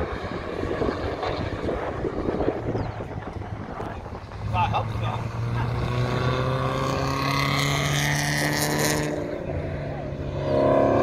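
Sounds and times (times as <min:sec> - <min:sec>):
racing cars passing: 0:00.0 - 0:11.0.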